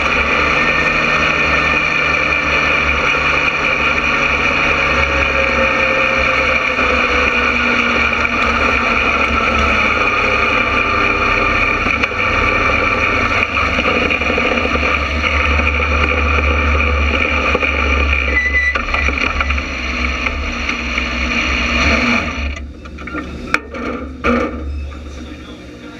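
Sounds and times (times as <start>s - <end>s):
race car engine running: 0.0s - 25.9s.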